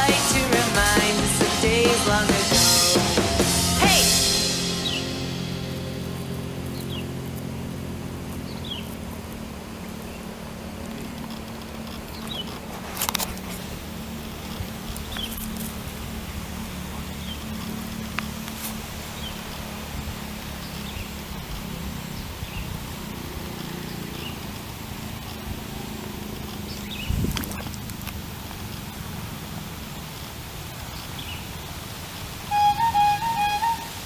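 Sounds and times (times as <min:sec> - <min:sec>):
steady low hum: 0:00.0 - 0:30.8.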